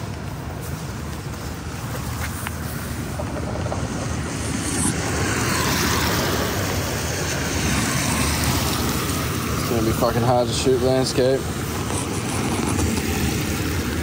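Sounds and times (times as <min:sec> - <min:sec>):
traffic on wet road: 0:00.0 - 0:14.0.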